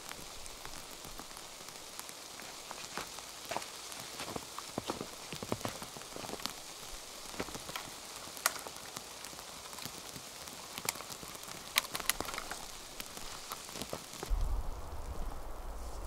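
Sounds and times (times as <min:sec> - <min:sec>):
precipitation pattering: 0:00.0 - 0:14.5.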